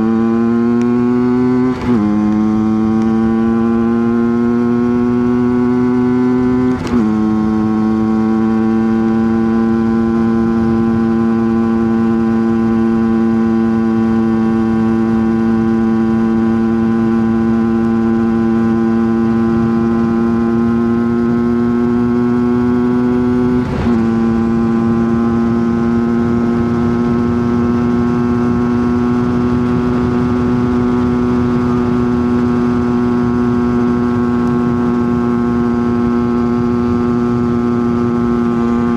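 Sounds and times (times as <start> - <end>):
two-stroke engine at high revs: 0.0 - 38.9.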